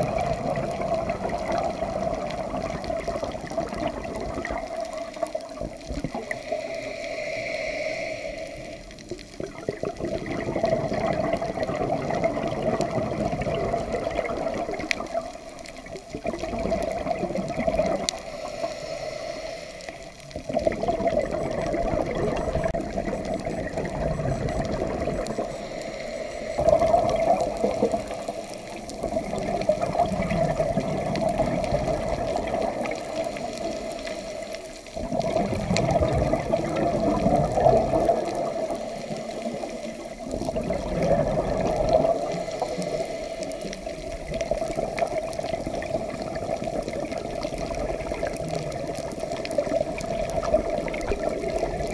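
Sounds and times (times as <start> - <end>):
diver exhaling bubbles underwater: 0.0 - 7.5, 8.5 - 19.2, 19.8 - 51.9.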